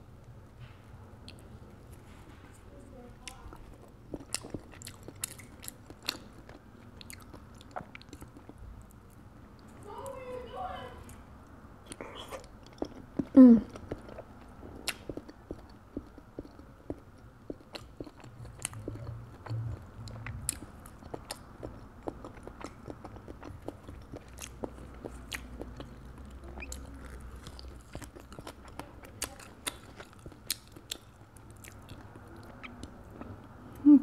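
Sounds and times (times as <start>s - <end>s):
close-up chewing: 3.2s - 9.9s, 11.9s - 33.9s.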